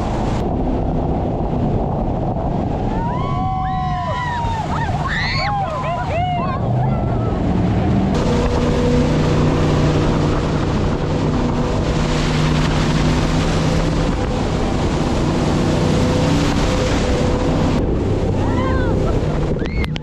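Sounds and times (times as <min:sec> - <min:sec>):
boat engine droning: 0:00.0 - 0:20.0
water rushing: 0:00.0 - 0:20.0
wind on microphone: 0:00.0 - 0:20.0.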